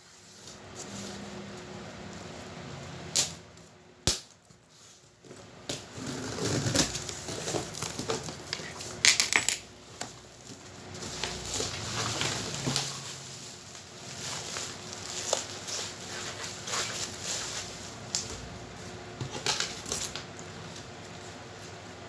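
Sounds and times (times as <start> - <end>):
packaging rustling and scraping: 0.0 - 2.6, 4.6 - 21.8.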